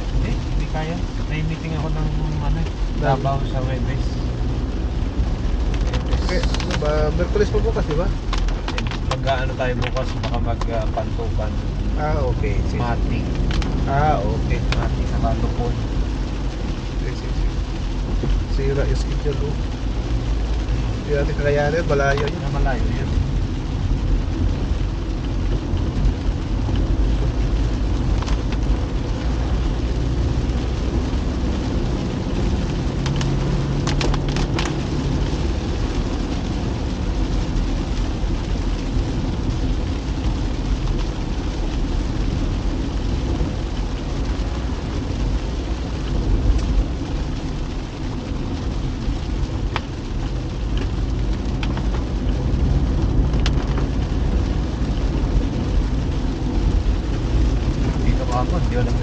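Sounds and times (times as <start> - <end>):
car driving on wet road: 0.0 - 59.0
rain: 0.0 - 59.0.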